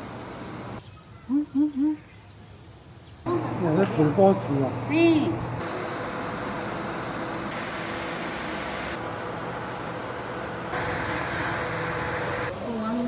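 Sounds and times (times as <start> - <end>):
ventilation hiss: 0.0 - 13.0.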